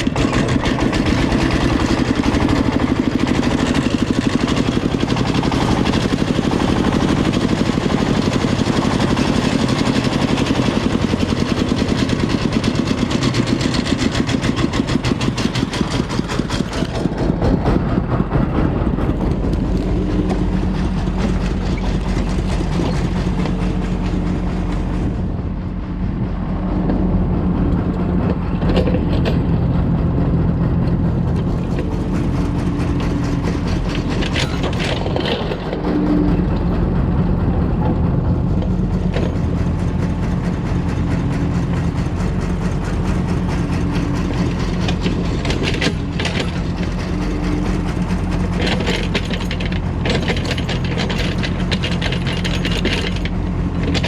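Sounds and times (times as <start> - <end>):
excavator diesel engine running: 0.0 - 54.0
farm truck diesel engine running: 0.0 - 54.0.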